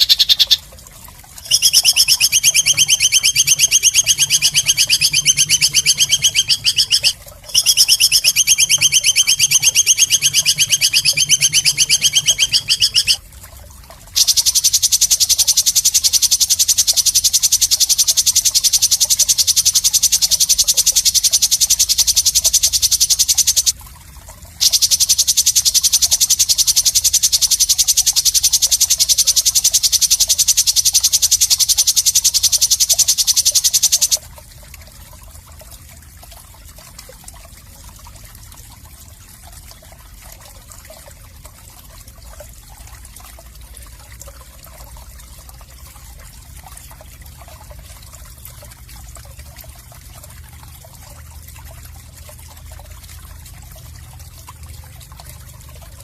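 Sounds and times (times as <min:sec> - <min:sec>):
faint trickling water: 0:00.0 - 0:56.0.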